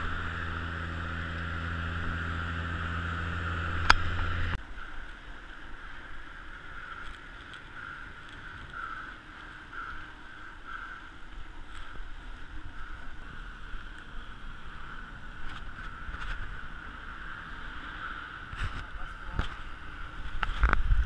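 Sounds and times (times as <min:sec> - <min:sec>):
bike wind and rolling noise: 0:00.0 - 0:21.0
steady low hum: 0:00.0 - 0:21.0.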